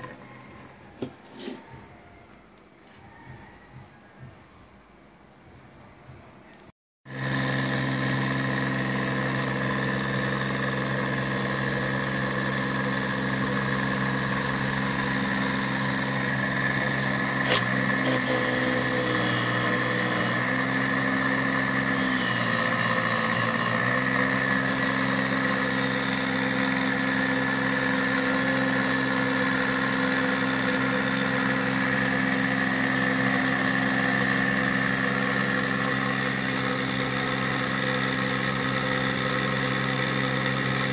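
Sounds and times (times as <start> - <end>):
electric motor humming and whining: 7.1 - 40.9.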